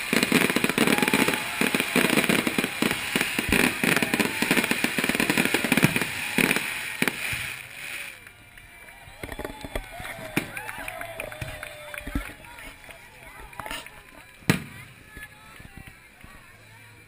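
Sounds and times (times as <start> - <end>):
fireworks bursting and crackling: 0.0 - 16.4.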